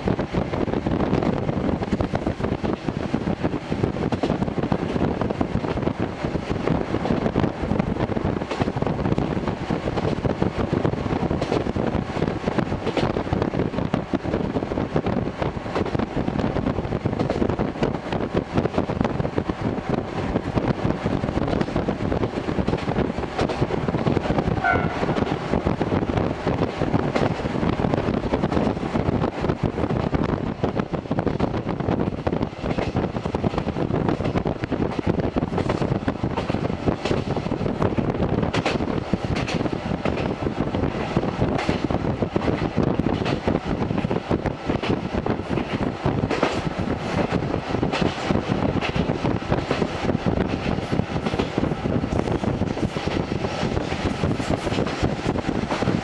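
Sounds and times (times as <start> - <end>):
railcar engine and wheels rumbling: 0.0 - 56.0.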